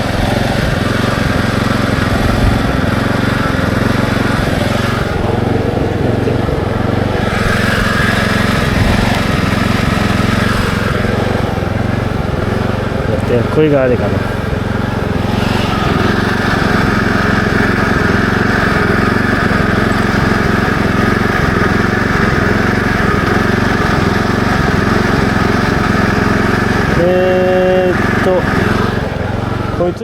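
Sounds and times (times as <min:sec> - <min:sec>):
small engine running steadily: 0:00.0 - 0:30.0.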